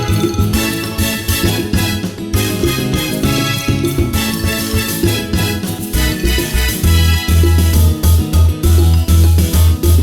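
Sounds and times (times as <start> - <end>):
upbeat music with bass and keyboard: 0.0 - 10.0.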